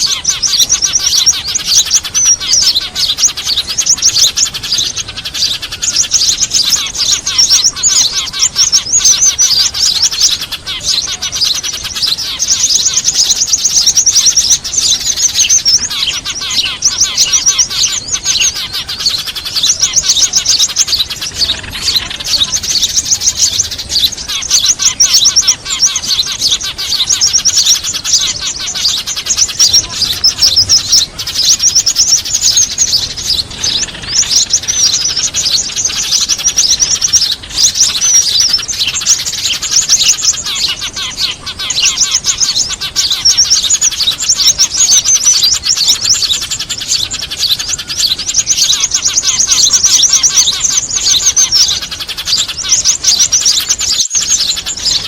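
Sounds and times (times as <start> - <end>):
small birds chattering: 0.0 - 55.0.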